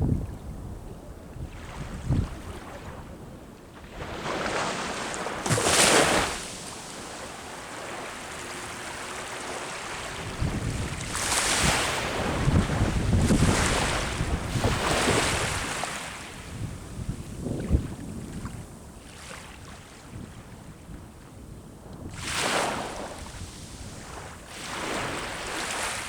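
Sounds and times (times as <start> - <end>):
wind rumbling on microphone: 0.0 - 26.0
sea waves breaking on shore: 1.0 - 20.5, 22.0 - 26.0.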